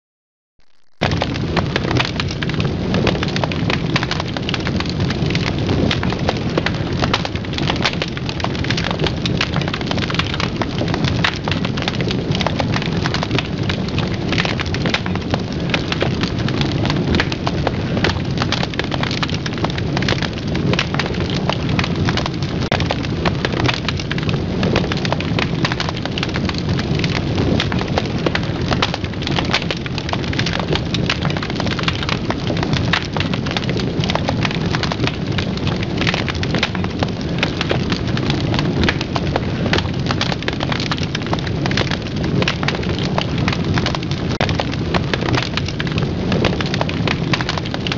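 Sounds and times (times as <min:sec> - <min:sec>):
wood fire crackling and popping: 0:00.6 - 0:47.9.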